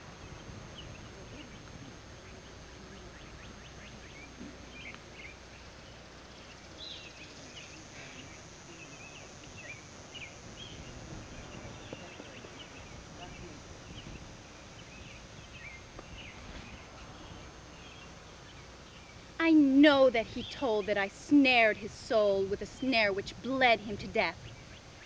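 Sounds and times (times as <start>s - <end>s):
small birds chirping: 0.0s - 25.0s
steady background hiss: 0.0s - 25.0s.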